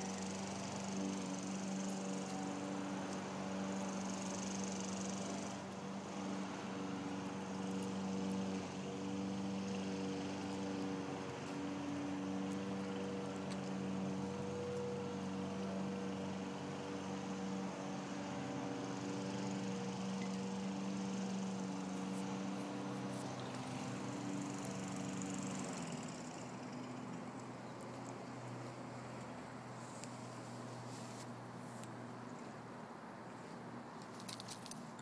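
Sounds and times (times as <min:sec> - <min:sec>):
motor droning: 0:00.0 - 0:32.7.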